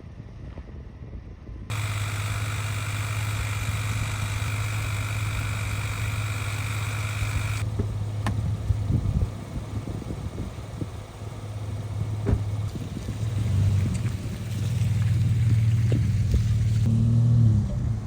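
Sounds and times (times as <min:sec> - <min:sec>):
outboard motor running: 0:01.7 - 0:16.9.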